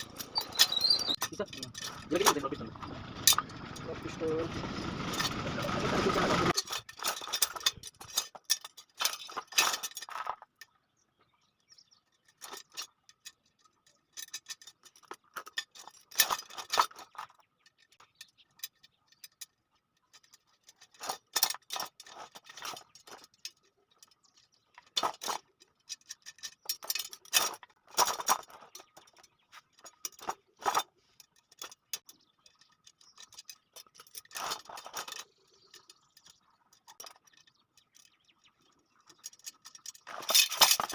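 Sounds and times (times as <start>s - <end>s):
steel spokes clinking and ticking: 0.0s - 40.9s.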